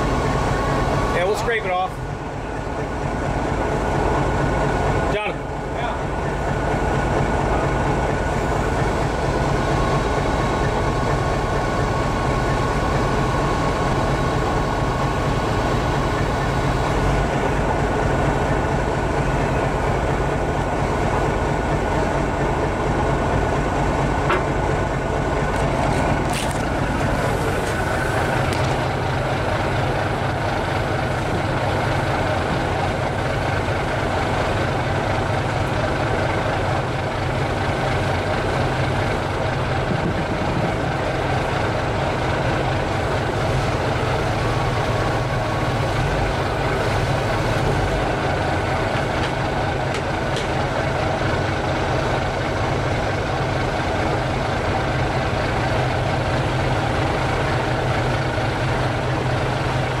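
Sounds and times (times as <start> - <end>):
large engine droning: 0.0 - 60.0.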